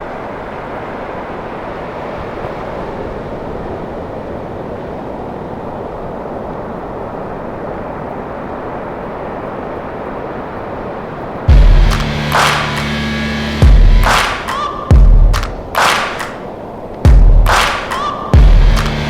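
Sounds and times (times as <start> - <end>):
ocean surf roar: 0.0 - 19.0.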